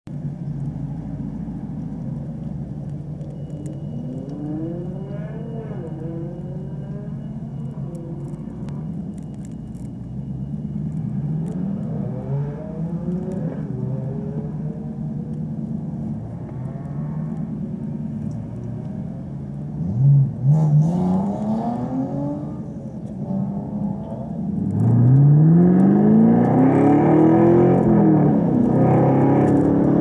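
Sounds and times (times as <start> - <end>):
car engine low drone: 0.1 - 30.0
higher engine note rising and falling: 3.2 - 30.0.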